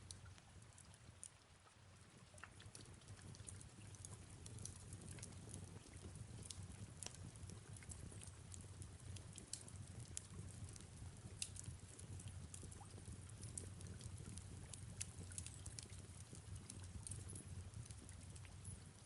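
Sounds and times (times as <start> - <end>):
soft rain: 0.0 - 19.0
fireplace crackling: 2.5 - 19.0.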